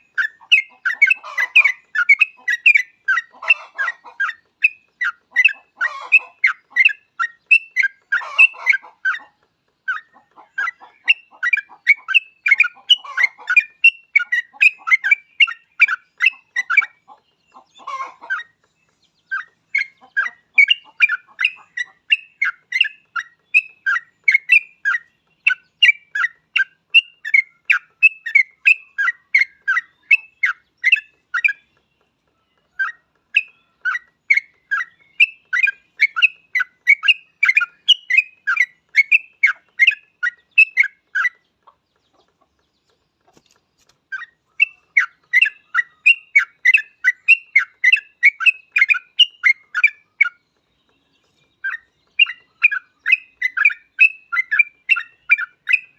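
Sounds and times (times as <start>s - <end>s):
bird singing chattering notes: 0.0s - 55.9s.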